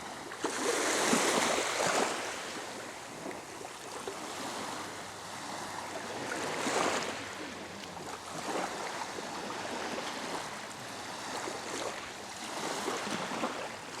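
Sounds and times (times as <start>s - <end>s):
crackling hiss of receding water: 0.0s - 14.0s
waves breaking on shore: 0.0s - 14.0s.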